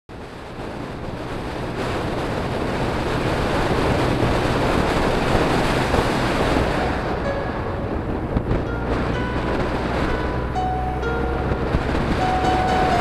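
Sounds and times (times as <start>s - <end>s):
motorcycle engine hum: 0.1s - 13.0s
wind rush over microphone: 0.1s - 13.0s.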